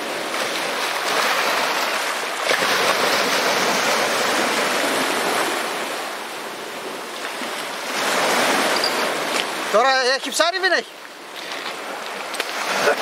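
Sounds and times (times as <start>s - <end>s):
waves washing over pebbles: 0.0s - 13.0s.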